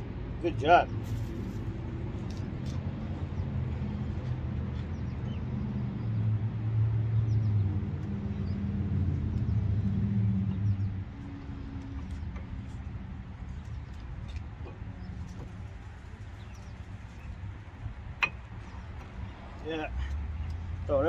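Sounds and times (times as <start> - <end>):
engine humming: 1.0 - 21.0.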